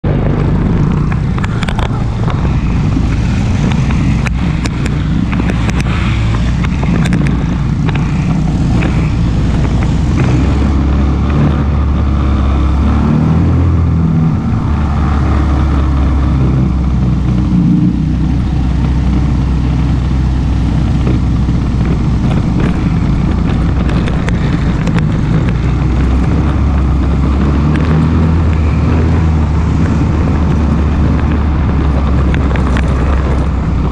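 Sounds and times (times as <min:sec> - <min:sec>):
atv engine droning: 0:00.0 - 0:33.9.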